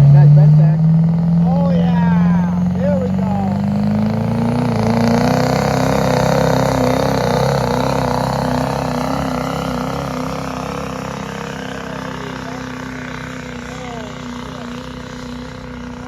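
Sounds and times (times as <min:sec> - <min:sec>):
diesel truck engine under load: 0:00.0 - 0:16.0.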